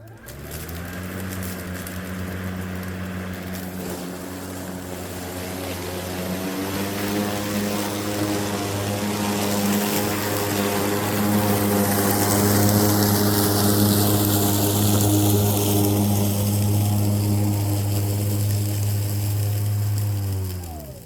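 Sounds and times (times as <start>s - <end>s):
lawn mower running: 0.0s - 21.0s.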